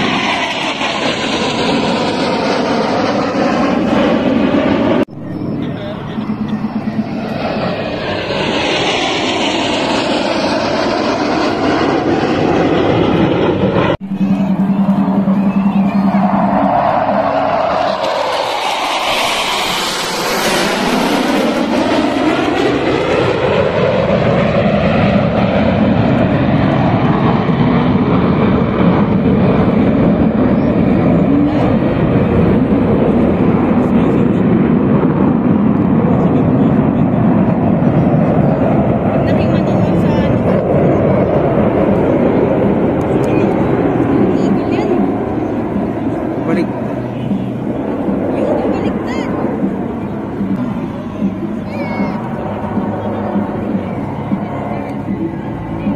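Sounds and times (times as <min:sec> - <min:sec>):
jet engines flying past: 0:00.0 - 0:55.9.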